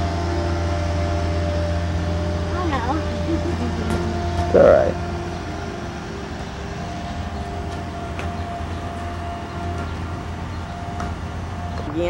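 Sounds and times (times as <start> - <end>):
faint whine: 0.0 - 12.0
low hum and rumble: 0.0 - 12.0.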